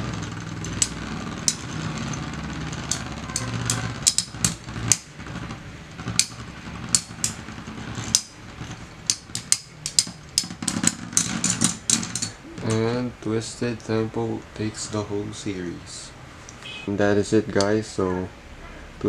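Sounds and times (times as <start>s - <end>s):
spinning tops clashing: 0.0s - 16.7s
spinning tops whirring: 0.0s - 18.2s.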